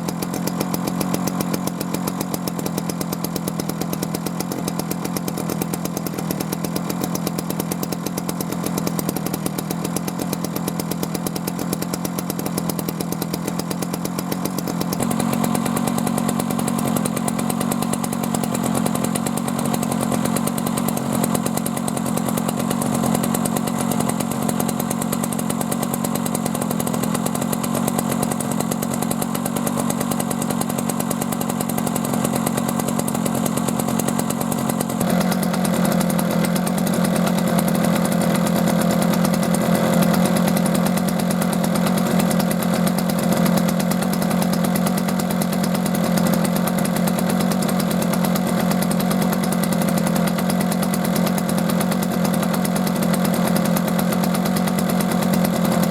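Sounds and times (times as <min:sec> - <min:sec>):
two-stroke stationary engine running: 0:00.0 - 0:55.9.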